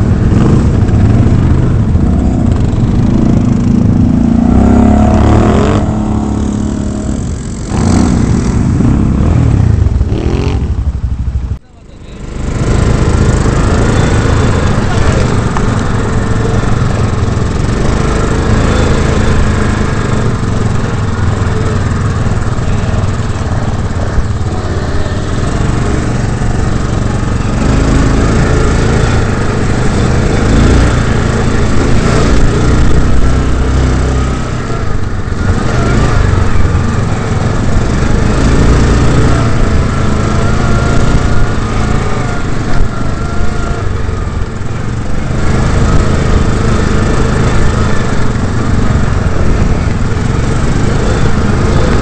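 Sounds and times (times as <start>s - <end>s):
quad bike engine revving: 0.0s - 52.0s.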